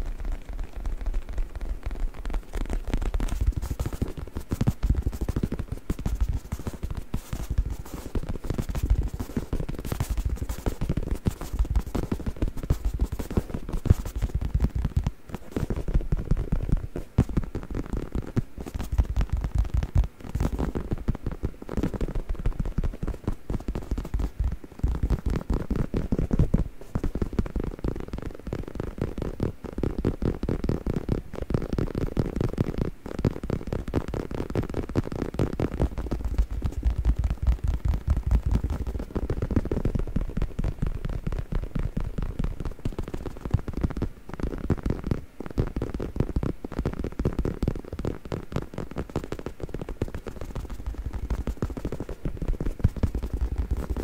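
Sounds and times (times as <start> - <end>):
fingers tapping on pillow: 1.2 - 54.0.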